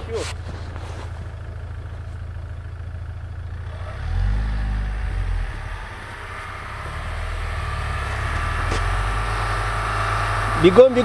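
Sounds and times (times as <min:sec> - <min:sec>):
car engine running and revving: 0:00.0 - 0:11.0.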